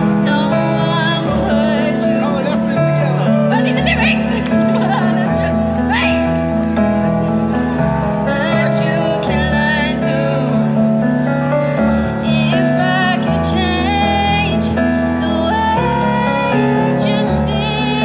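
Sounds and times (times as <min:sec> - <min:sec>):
low bass line: 0:00.0 - 0:16.3.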